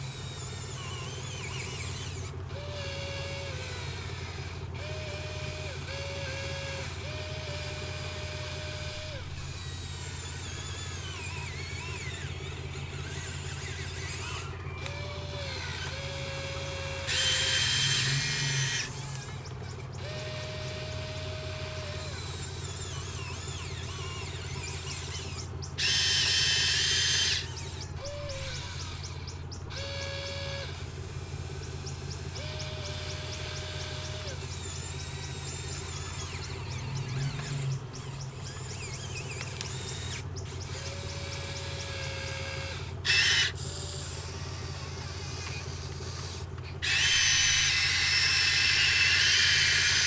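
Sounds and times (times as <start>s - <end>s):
electric motor and pump whirring: 0.0s - 50.0s.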